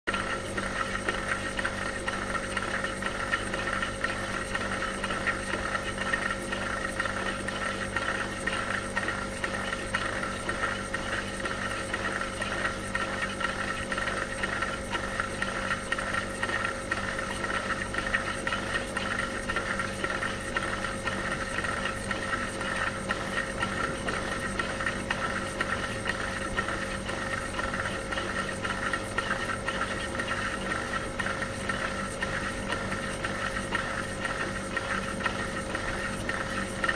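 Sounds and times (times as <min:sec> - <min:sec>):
dishwasher motor hum: 0:00.1 - 0:36.9.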